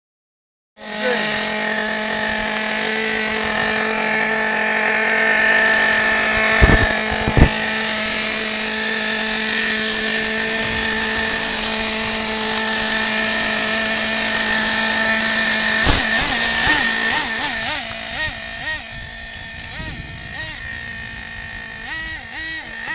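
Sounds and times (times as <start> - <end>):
model car engine revving: 0.8 - 22.9.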